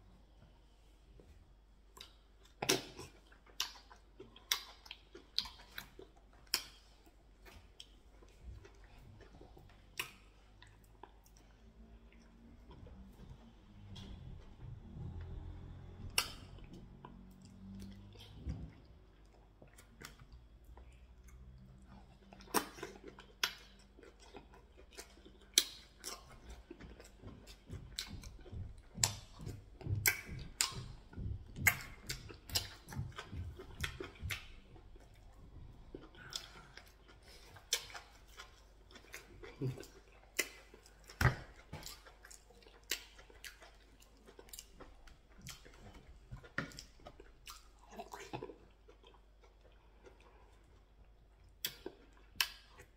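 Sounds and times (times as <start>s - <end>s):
chewing and wet mouth smacks: 1.9s - 52.9s.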